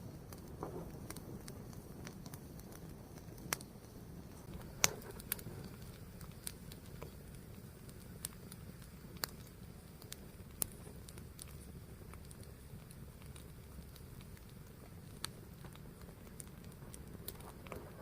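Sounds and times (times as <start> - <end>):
fire crackling and popping: 0.0 - 18.0
fire rushing: 0.0 - 18.0.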